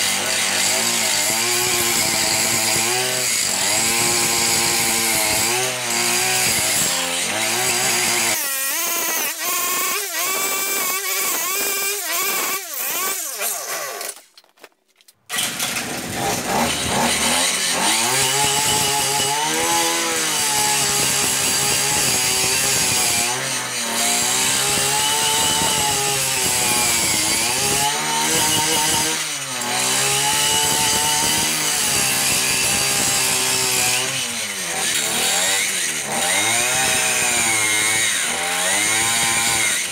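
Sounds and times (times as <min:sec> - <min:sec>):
brushcutter engine revving: 0:00.0 - 0:14.2, 0:15.3 - 0:39.9.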